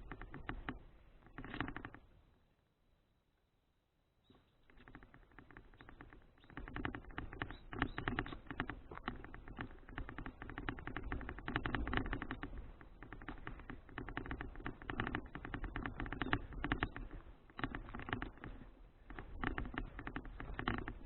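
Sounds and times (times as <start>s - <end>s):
bicycle clicking and rattling: 0.0s - 2.2s, 4.6s - 21.0s.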